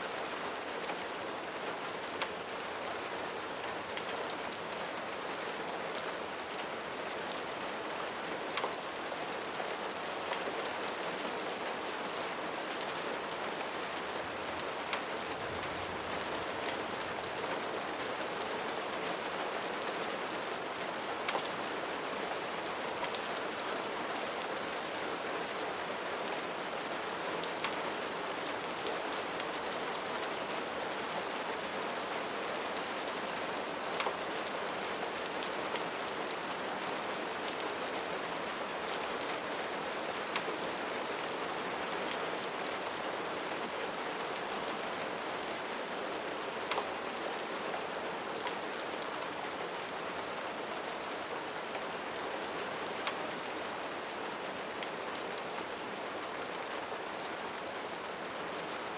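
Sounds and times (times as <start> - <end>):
rain falling on a surface: 0.0 - 58.9.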